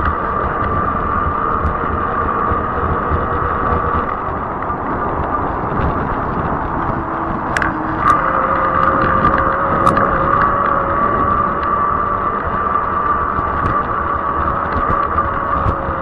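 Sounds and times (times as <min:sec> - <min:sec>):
electric bike drive whine: 0:00.0 - 0:16.0
tire hum on asphalt: 0:00.0 - 0:16.0
wind on microphone: 0:00.0 - 0:16.0.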